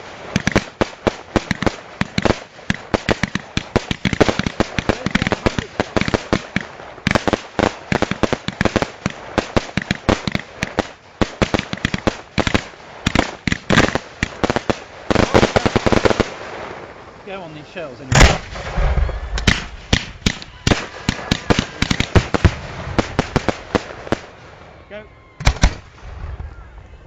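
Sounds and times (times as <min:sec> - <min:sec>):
fireworks bangs and cracks: 0:00.0 - 0:26.5.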